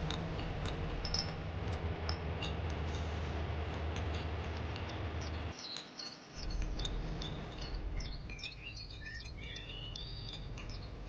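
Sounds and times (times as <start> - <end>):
low hum: 0.0 - 5.6, 6.4 - 11.0
rushing background ambience: 0.0 - 5.6, 6.3 - 11.0.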